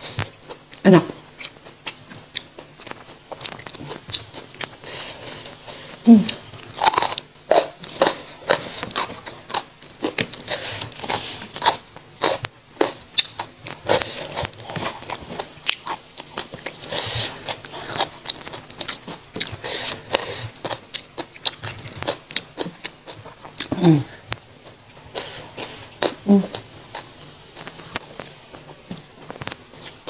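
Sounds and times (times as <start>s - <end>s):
crisp crunching and chewing: 0.0s - 30.0s.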